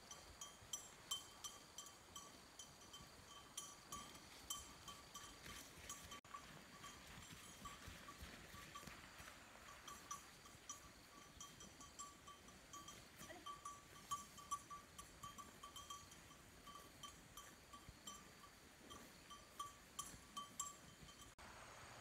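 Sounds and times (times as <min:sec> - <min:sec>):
quiet outdoor hiss: 0:00.0 - 0:22.0.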